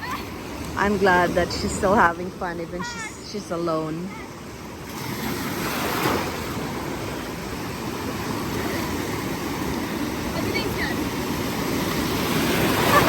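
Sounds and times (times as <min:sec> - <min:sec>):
surf breaking and washing: 0:00.0 - 0:13.0.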